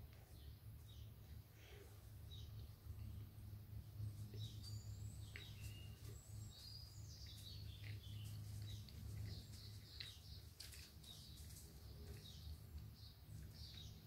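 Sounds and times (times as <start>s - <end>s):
faint birdsong chirps: 0.0s - 14.0s
low hum: 0.0s - 14.0s.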